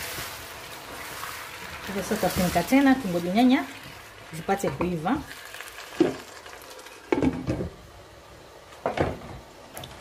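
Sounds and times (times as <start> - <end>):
food sizzling in oil: 0.0 - 8.6.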